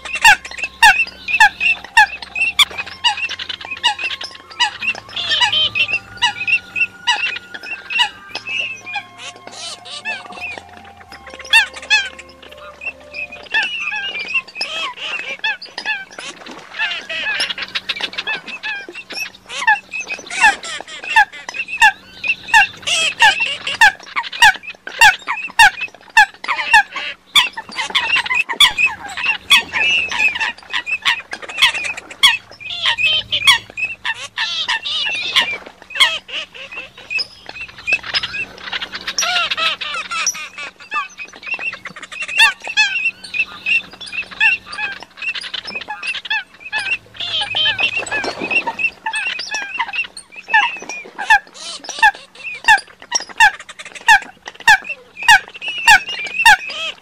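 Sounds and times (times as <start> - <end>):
steady low hum: 0.0 - 57.0
waterbirds calling in chorus: 0.0 - 57.0.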